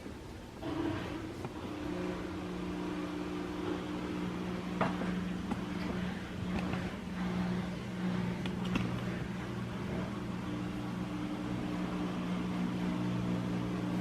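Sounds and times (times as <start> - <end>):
ceiling fan motor humming: 0.0 - 14.0.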